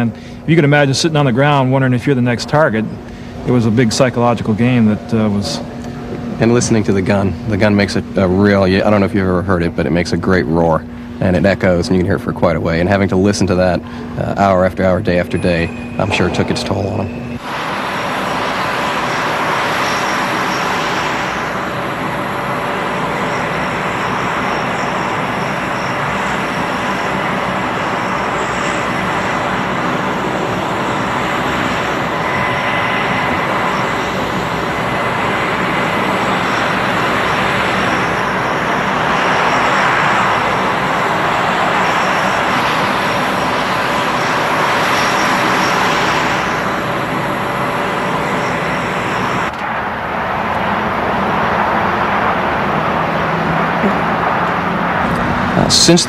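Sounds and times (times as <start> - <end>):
jet engines running while taxiing: 0.0 - 56.0.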